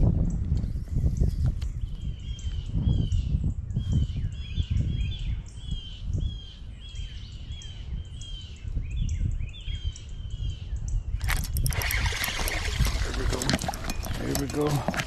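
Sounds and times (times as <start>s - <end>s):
birds chirping: 1.2s - 15.0s.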